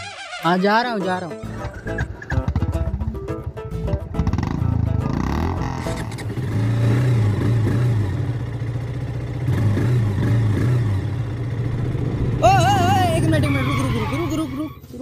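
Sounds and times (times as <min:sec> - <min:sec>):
motorcycle engine revving: 0:01.4 - 0:15.0.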